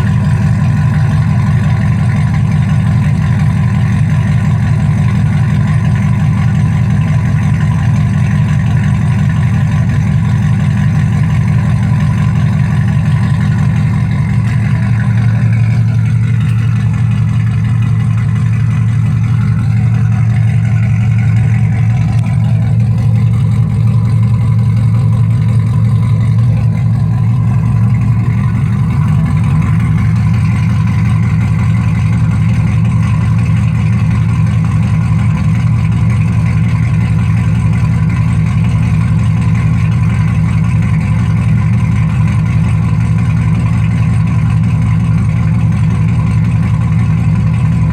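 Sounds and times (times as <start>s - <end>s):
deep car exhaust idling: 0.0s - 47.9s.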